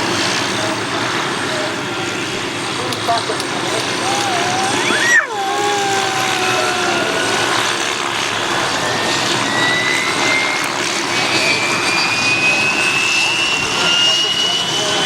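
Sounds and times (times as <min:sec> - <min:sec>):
aircraft engine roar: 0:00.0 - 0:15.0
engine whine: 0:00.0 - 0:15.0.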